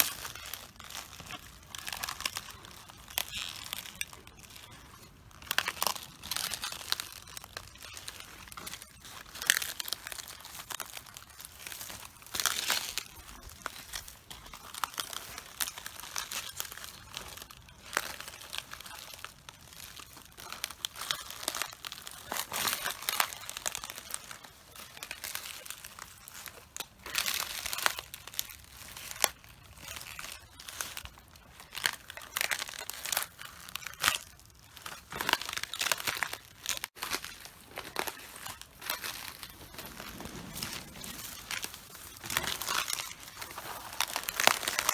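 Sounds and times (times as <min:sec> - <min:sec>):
footsteps crunching cabbage leaves: 0:00.0 - 0:44.9.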